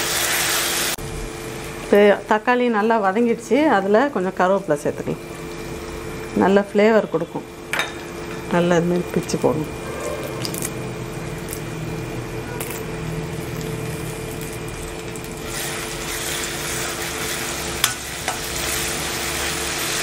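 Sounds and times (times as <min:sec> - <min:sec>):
masala sizzling in hot oil: 0:00.0 - 0:20.0.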